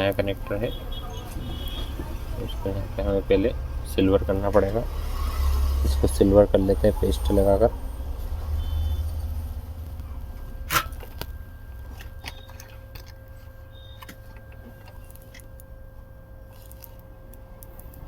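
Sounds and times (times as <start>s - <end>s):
low hum: 0.3s - 18.0s.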